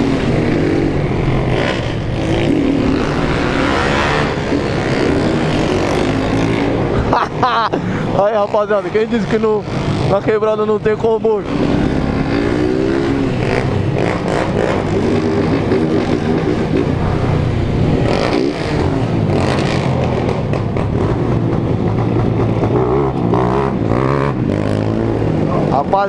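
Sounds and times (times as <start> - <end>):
small motorcycles revving: 0.0 - 26.0.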